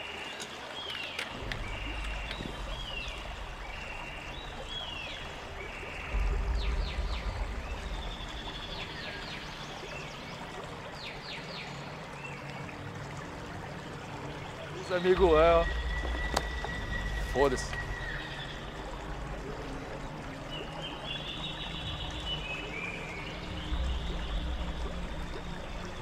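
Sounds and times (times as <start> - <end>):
flowing river water: 0.0 - 26.0
low rumble: 1.4 - 10.5, 13.3 - 26.0.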